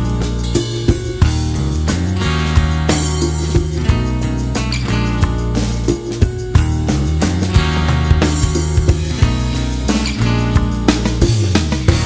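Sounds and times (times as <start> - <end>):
upbeat instrumental music with guitar: 0.0 - 12.0.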